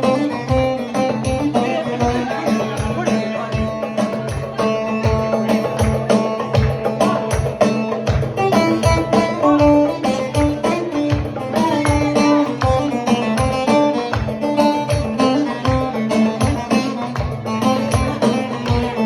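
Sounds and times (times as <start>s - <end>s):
melodic lead line: 0.0s - 18.6s
steady drum beat: 0.0s - 19.0s
wedding band music: 0.0s - 19.0s.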